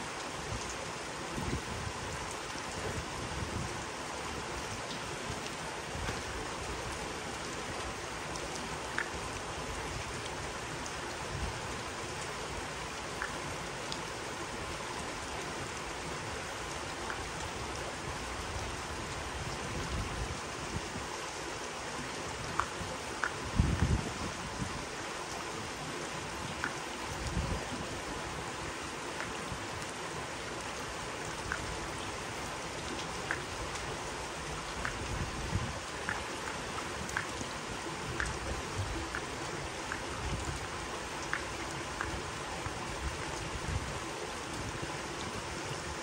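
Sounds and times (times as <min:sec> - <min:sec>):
rain on grass and water: 0:00.0 - 0:46.0.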